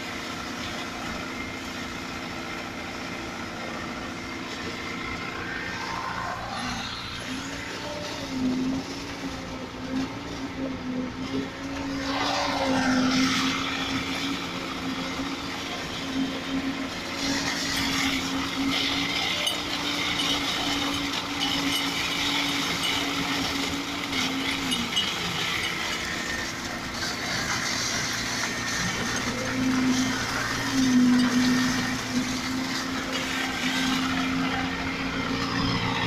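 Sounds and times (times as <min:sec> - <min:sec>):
diesel truck engine running: 0:00.0 - 0:36.0.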